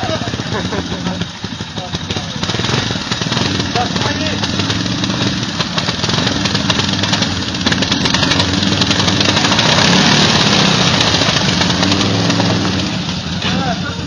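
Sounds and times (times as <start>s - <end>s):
quad engines running: 0.0s - 14.0s.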